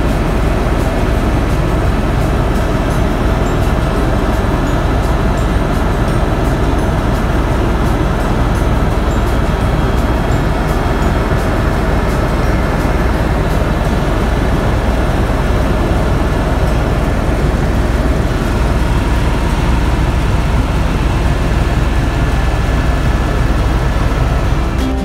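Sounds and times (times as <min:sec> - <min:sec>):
faint steady whine: 0:00.0 - 0:25.0
helicopter engine and rotor drone: 0:00.0 - 0:25.0.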